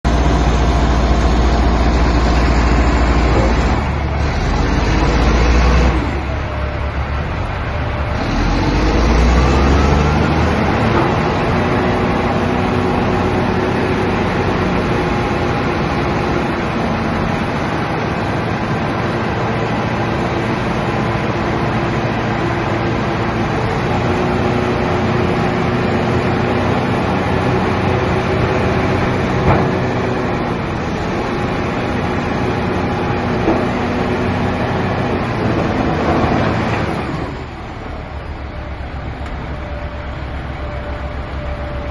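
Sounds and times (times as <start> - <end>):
bulldozer diesel engine revving: 0.1 - 41.9.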